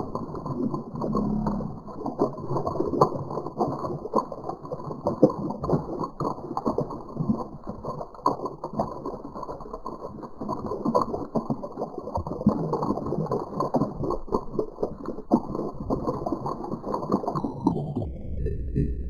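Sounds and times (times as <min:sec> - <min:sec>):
ducks dabbling in water: 0:00.0 - 0:18.1.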